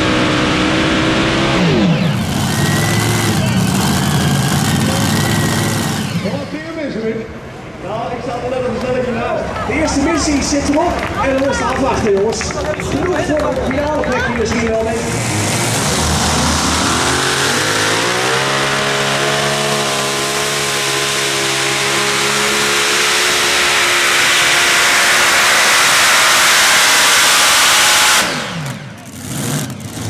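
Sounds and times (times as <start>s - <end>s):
tractor engine revving: 0.0s - 7.9s, 10.2s - 30.0s.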